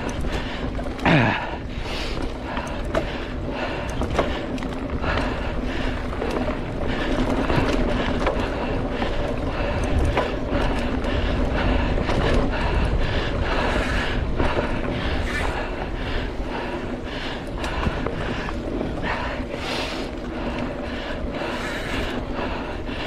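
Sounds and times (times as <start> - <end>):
bike clicks and rattles: 0.0 - 23.0
bike tyres on dirt: 0.0 - 23.0.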